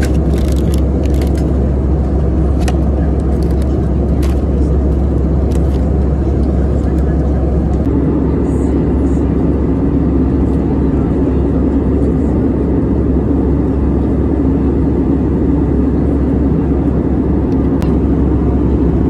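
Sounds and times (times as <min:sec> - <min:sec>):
airplane cabin engine drone: 0:00.0 - 0:19.0.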